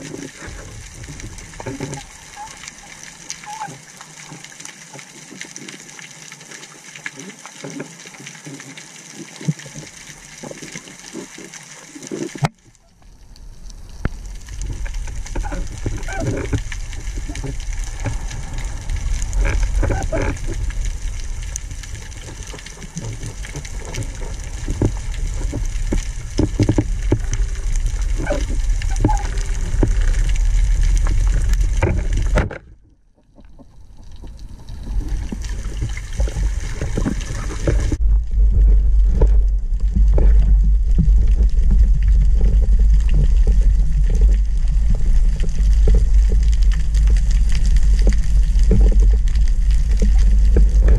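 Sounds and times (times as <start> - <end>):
underwater clicks and crackles: 0.0 - 50.9
underwater rush of water: 0.0 - 50.9
water sloshing: 0.0 - 50.9.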